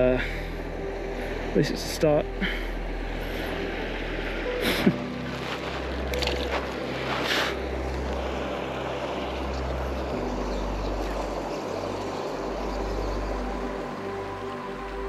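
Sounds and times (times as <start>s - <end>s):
low bass music: 0.0s - 15.0s
shallow river flowing: 0.0s - 15.0s.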